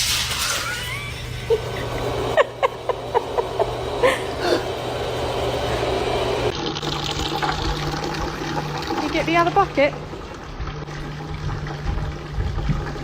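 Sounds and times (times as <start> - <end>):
water running into bucket: 0.0 - 2.5, 3.1 - 13.0.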